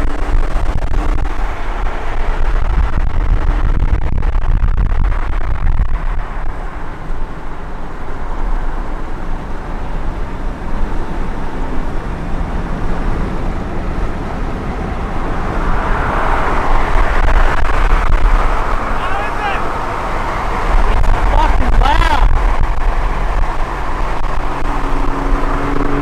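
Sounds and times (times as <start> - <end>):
car exhaust note while driving: 0.0 - 26.0.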